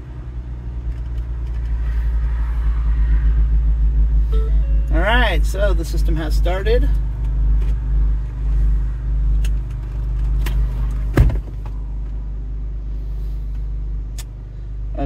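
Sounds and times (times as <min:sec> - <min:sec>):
car engine idling hum: 0:00.0 - 0:15.0.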